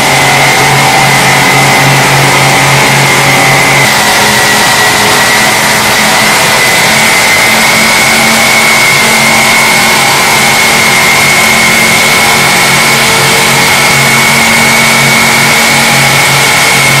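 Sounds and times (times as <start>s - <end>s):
high whine: 0.0s - 17.0s
low motor hum: 0.0s - 17.0s.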